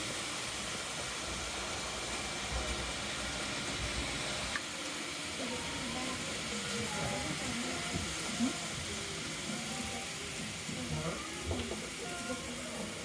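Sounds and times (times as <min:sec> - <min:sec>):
model train whirring: 0:00.0 - 0:13.0.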